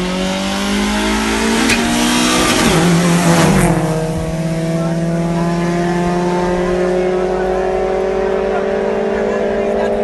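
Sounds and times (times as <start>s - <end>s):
car passing with loud rush: 0.0s - 10.0s
race cars at high revs: 0.0s - 10.0s.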